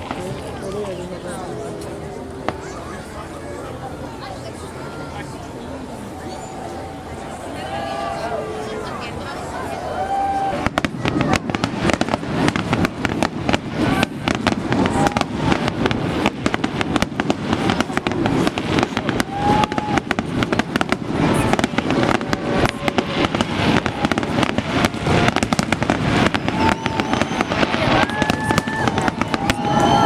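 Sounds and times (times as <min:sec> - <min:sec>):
fireworks bangs and crackles: 0:00.0 - 0:03.6, 0:07.6 - 0:30.0
crowd voices: 0:00.0 - 0:30.0.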